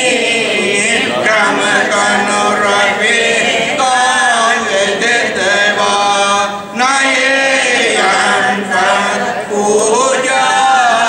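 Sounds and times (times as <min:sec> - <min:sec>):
group chanting a hymn: 0:00.0 - 0:11.0.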